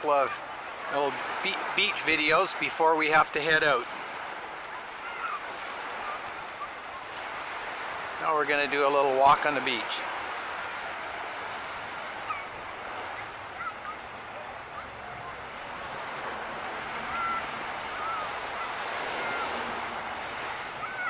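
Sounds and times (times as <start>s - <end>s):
waves washing on sandy beach: 0.0s - 21.0s.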